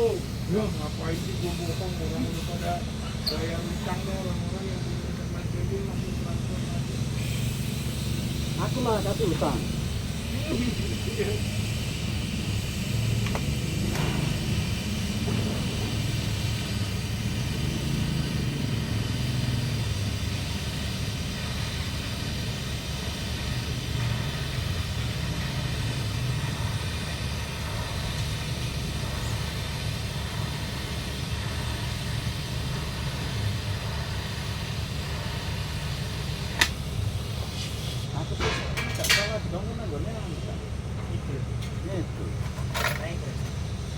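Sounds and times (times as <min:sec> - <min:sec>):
welding machine drone with hiss: 0:00.0 - 0:43.9.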